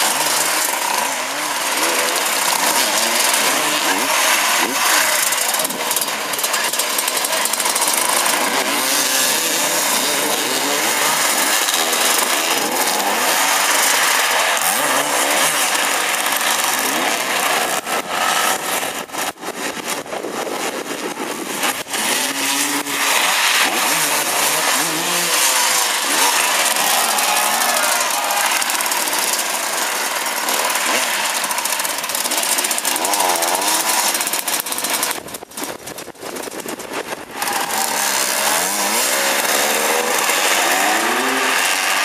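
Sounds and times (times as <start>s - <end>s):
motorcycles revving: 0.0s - 42.0s.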